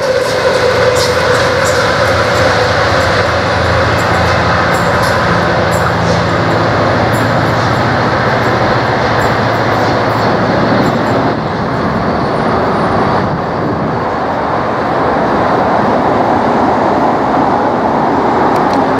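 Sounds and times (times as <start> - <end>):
diesel locomotive engine drone: 0.0 - 18.9
loud steady rushing noise: 0.0 - 18.9.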